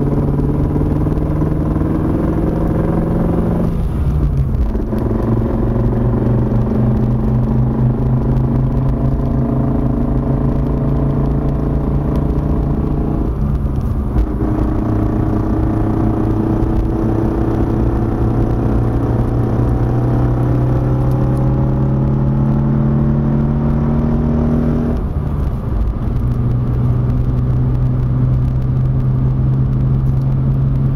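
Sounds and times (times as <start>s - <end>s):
car drivetrain drone: 0.0s - 30.9s.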